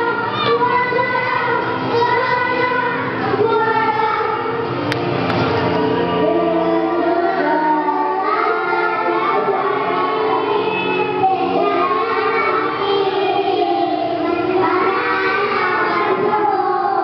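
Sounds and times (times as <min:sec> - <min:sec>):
children singing: 0:00.0 - 0:04.7, 0:05.7 - 0:17.0.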